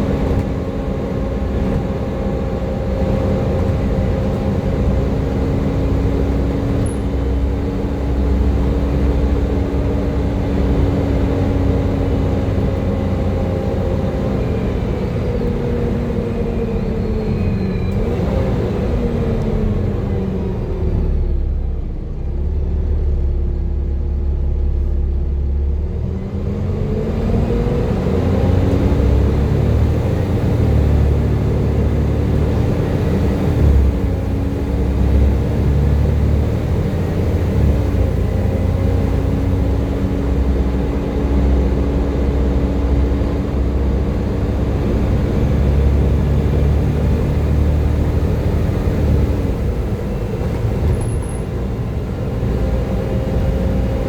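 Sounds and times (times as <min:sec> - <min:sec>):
bus engine rumbling with whine: 0:00.0 - 0:54.0.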